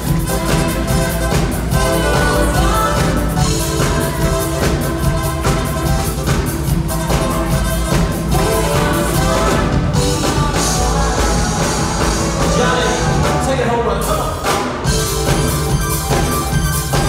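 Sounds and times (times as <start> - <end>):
lead vocal singing: 0.0 - 14.9
bass: 0.0 - 17.0
drum kit: 0.0 - 17.0
keyboards: 0.0 - 17.0.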